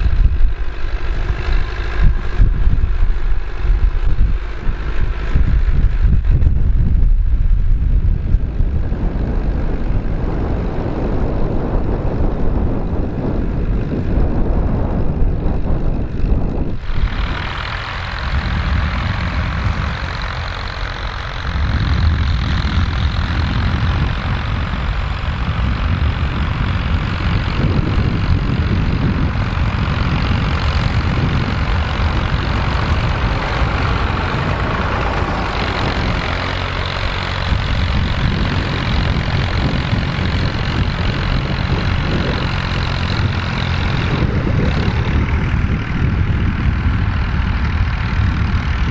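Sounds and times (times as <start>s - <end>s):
tractor engine running under load: 0.0s - 48.9s.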